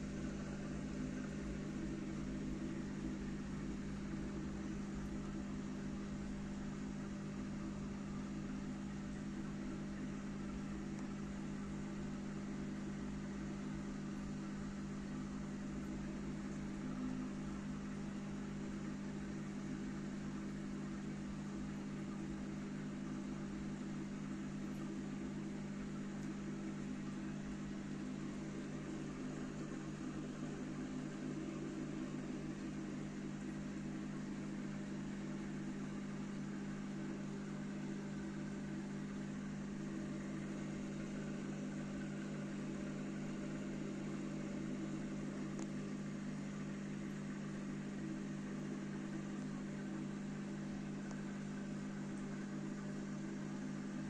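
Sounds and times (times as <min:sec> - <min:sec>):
aquarium pump humming: 0:00.0 - 0:54.0.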